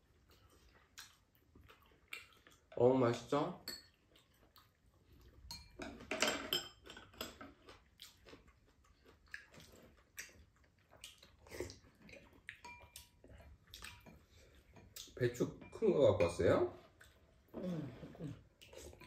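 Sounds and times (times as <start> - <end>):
quiet chewing: 0.0 - 2.8, 3.8 - 6.0, 6.8 - 15.2, 16.7 - 19.0.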